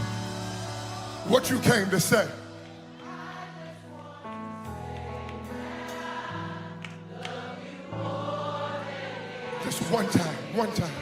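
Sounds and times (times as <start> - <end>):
gospel band and choir: 0.0 - 11.0.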